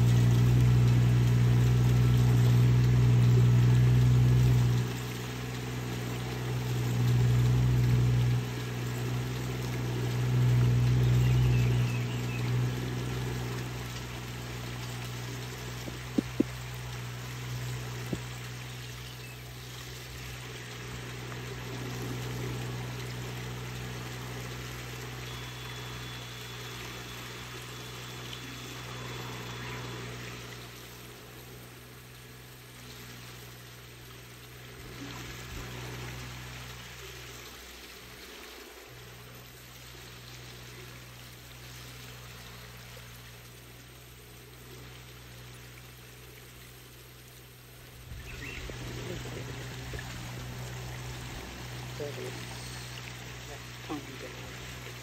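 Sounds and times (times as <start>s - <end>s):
rain and water hiss: 0.0s - 55.0s
rice transplanter engine running: 0.0s - 55.0s.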